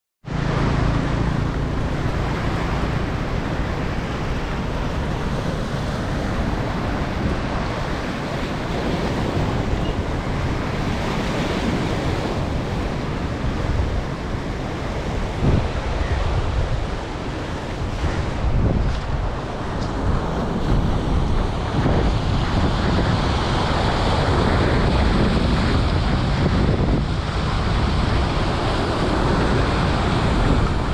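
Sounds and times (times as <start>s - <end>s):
water rushing: 0.3s - 30.9s
wind buffeting microphone: 0.3s - 30.9s
wind rushing: 0.3s - 30.9s.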